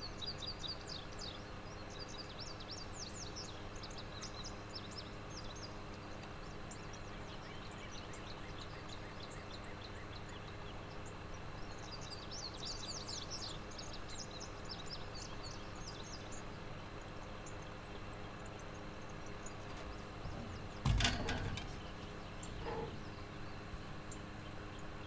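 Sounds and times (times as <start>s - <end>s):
low background hum: 0.0s - 25.0s
small birds chirping: 0.0s - 25.0s.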